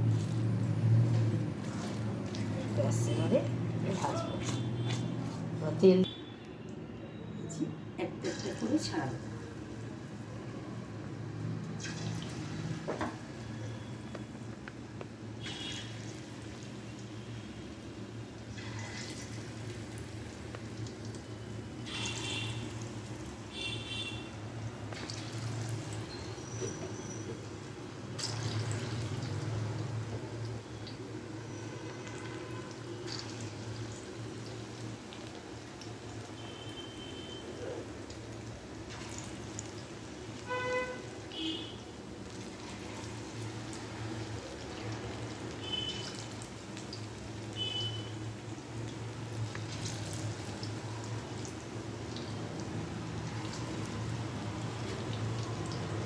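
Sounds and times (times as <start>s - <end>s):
fritters deep-frying in oil: 0.0s - 56.0s.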